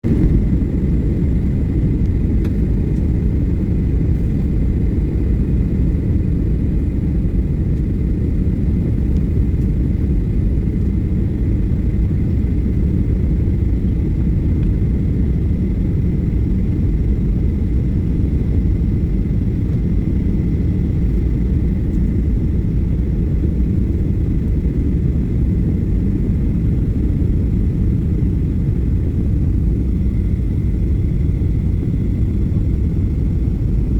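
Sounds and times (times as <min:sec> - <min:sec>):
air rushing along fuselage: 0:00.0 - 0:33.9
jet engine cabin rumble: 0:00.0 - 0:33.9.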